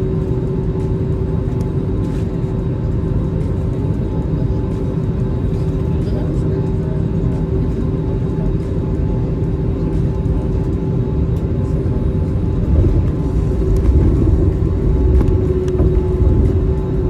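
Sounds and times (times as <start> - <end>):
airliner engine drone in cabin: 0.0 - 17.0.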